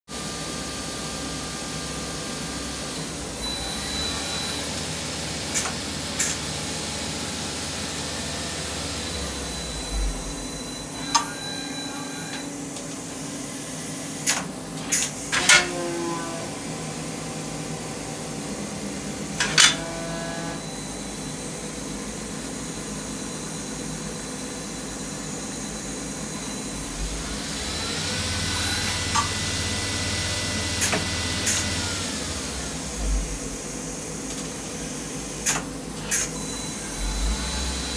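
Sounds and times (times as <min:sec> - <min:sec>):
lathe mechanical hum: 0:00.2 - 0:37.9.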